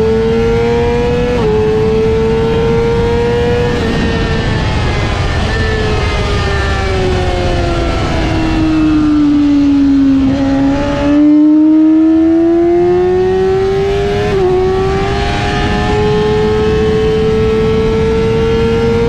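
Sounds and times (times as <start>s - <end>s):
motorcycle engine at high revs: 0.0s - 19.0s
wind noise: 0.0s - 19.0s.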